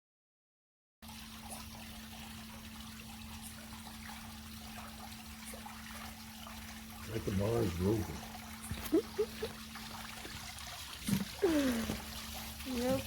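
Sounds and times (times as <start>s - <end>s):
faint trickling water: 1.0s - 13.0s.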